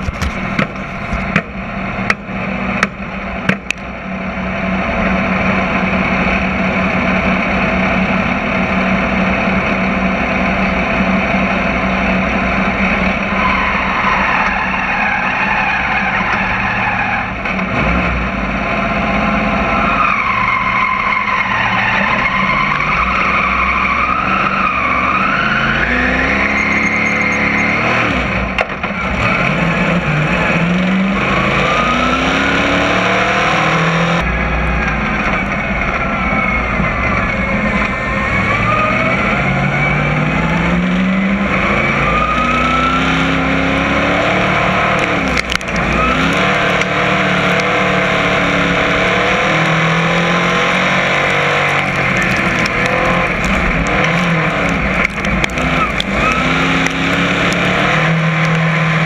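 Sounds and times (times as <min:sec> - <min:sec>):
race car engine idling and revving: 0:00.0 - 0:59.0.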